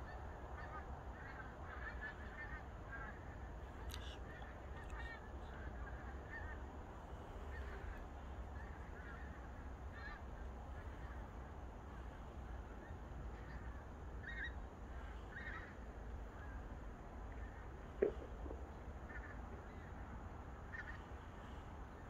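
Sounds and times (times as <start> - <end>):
geese honking: 0.0 - 16.8, 17.4 - 22.0
steady low rumble: 0.0 - 22.0.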